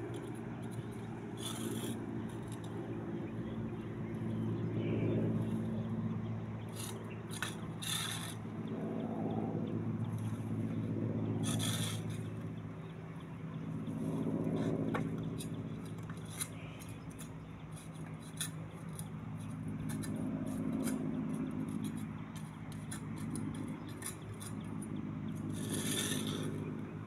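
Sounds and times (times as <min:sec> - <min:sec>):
distant helicopter drone: 0:00.0 - 0:27.0.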